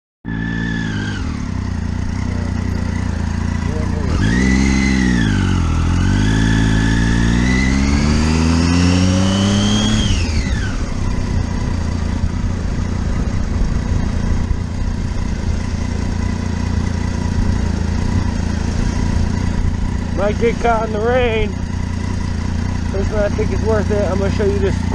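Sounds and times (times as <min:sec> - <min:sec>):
motorcycle engine accelerating: 0:00.2 - 0:24.9.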